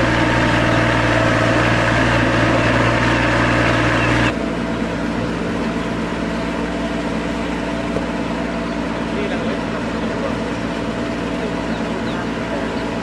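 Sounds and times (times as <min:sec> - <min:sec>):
farm machine engine running: 0:00.0 - 0:13.0.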